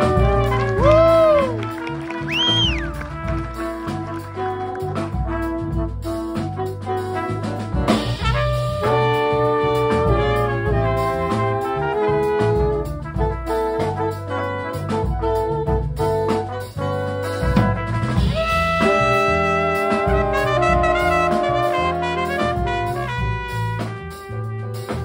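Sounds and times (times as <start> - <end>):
bass: 0.0 - 25.0
drum kit: 0.0 - 25.0
horn section playing jazz: 0.0 - 25.0.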